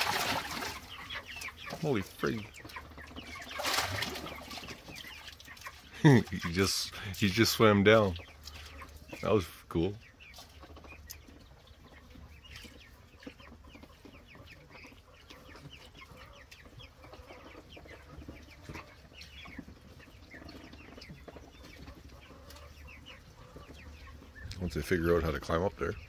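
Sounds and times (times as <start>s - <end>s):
ducklings peeping: 0.0s - 26.0s.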